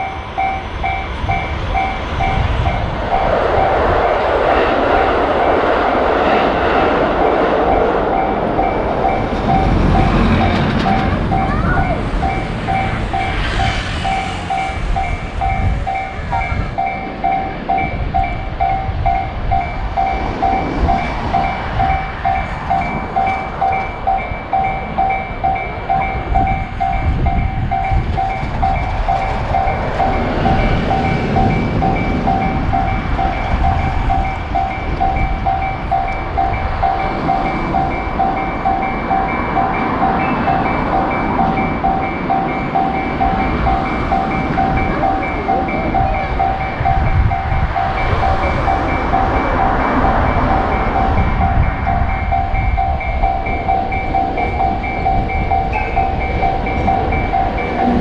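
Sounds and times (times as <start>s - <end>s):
railroad crossing warning bell: 0.0s - 58.0s
train passing with rumble: 0.0s - 58.0s.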